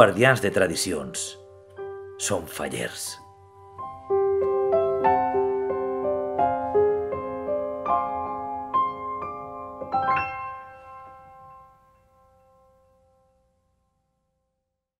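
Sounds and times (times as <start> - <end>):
soft slow piano music: 0.0 - 14.0.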